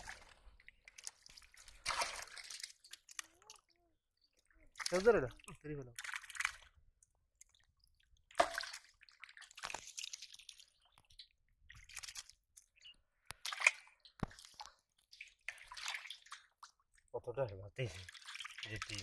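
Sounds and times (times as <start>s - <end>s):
water splashing: 0.0s - 12.8s, 13.4s - 19.0s
mud squelching: 0.0s - 19.0s.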